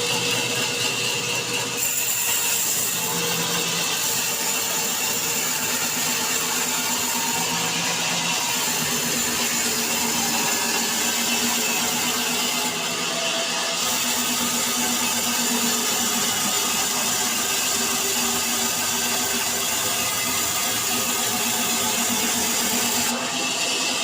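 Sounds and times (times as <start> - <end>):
saw cutting wood: 0.0 - 24.0.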